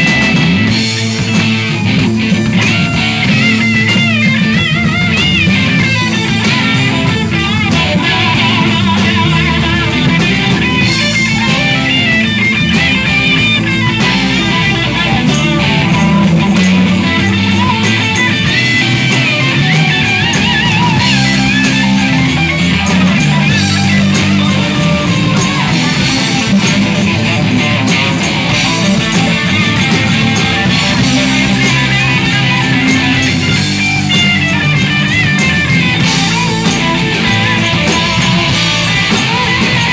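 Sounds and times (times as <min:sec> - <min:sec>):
bass: 0:00.0 - 0:39.9
drums: 0:00.0 - 0:39.9
lead guitar with bent notes: 0:00.0 - 0:39.9.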